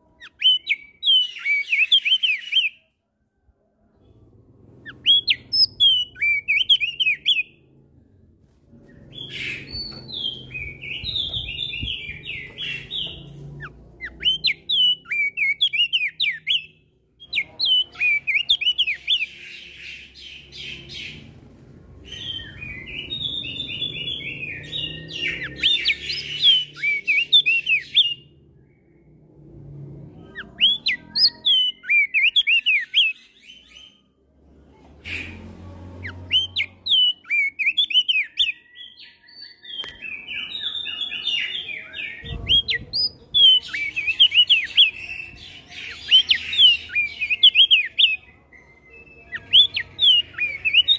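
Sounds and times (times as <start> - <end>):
bird singing twittering phrases: 0.0 - 2.8, 4.8 - 7.6, 8.9 - 21.4, 22.0 - 29.2, 30.2 - 34.0, 35.1 - 50.9
other songbirds calling: 0.0 - 2.8, 4.1 - 7.6, 8.8 - 28.4, 35.0 - 50.9.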